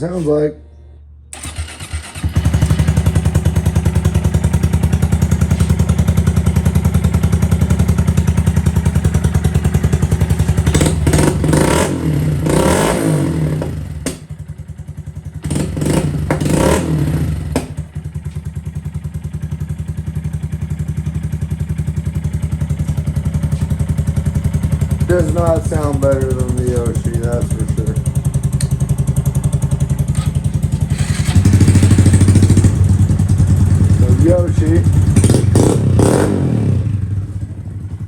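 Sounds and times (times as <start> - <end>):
motorcycle engine idling and revving: 1.3 - 38.0.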